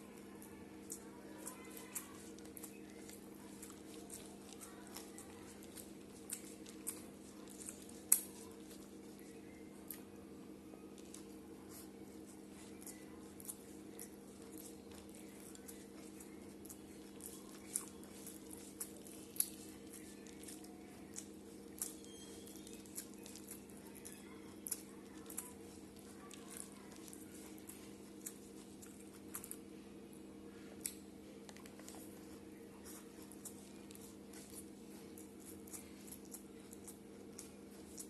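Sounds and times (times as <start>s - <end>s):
person chewing food: 0.0s - 29.8s, 30.6s - 38.0s
steady low hum: 0.0s - 38.0s.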